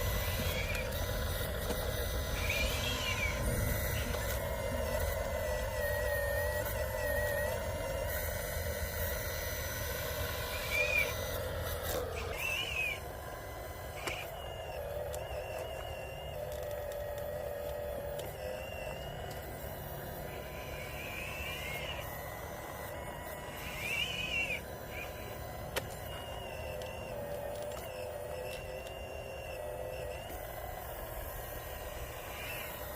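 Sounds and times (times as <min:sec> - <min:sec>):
electric motors whining: 0:00.0 - 0:32.9.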